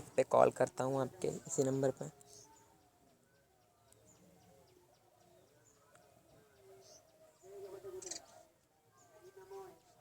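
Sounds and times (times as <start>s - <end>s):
faint birds chirping: 0.0s - 10.0s
faint distant voices: 0.0s - 10.0s.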